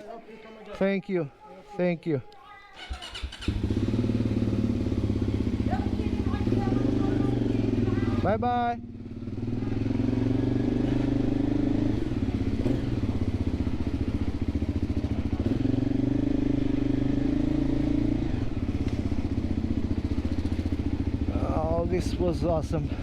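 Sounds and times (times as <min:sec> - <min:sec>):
motorcycle engine running: 0:02.8 - 0:23.0.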